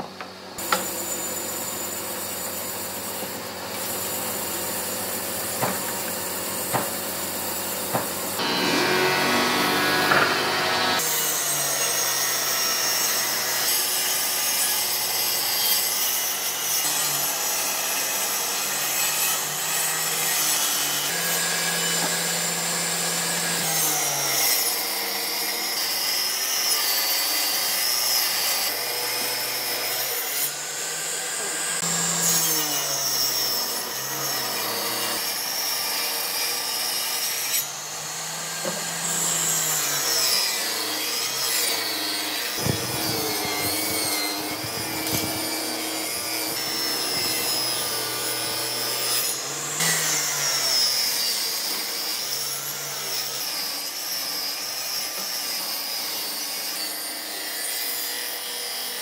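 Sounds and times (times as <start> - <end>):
table saw cutting wood: 0.0 - 59.0.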